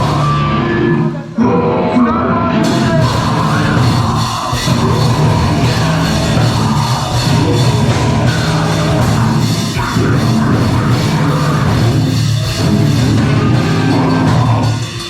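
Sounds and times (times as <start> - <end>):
live heavy rock band: 0.0 - 15.0.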